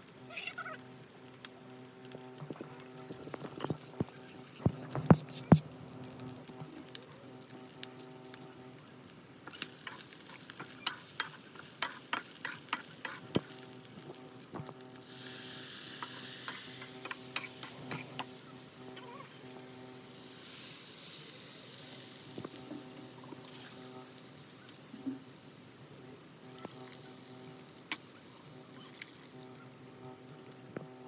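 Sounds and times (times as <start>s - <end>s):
water hitting hot oil sizzle: 0.0s - 25.7s
chicken frying: 0.0s - 31.0s.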